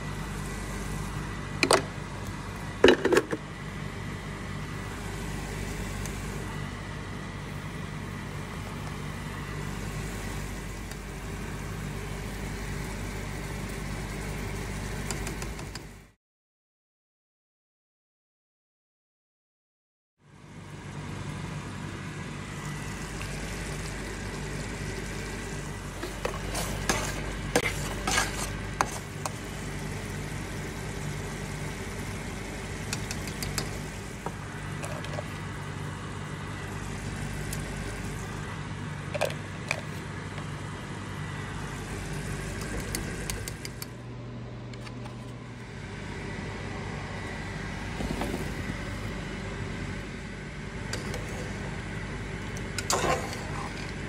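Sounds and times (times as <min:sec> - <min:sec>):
steady hum and hiss: 0:00.0 - 0:16.2, 0:20.3 - 0:54.0.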